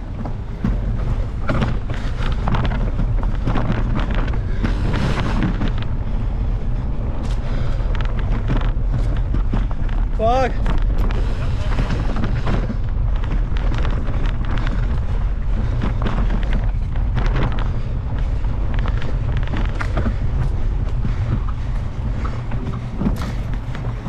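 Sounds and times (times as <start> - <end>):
bike clattering over bumps: 0.0 - 24.0
tyres on dirt: 0.0 - 24.0
wind rumbling on microphone: 0.0 - 24.0.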